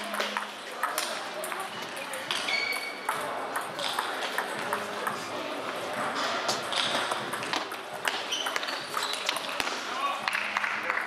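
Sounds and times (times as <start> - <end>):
table tennis balls clicking: 0.0 - 5.3, 5.9 - 11.0
murmur of voices: 0.0 - 11.0.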